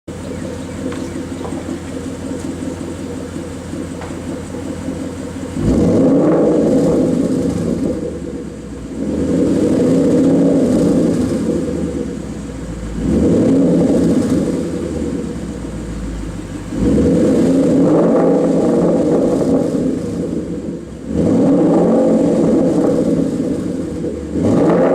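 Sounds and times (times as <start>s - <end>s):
car engine idling and revving: 0.1s - 24.9s.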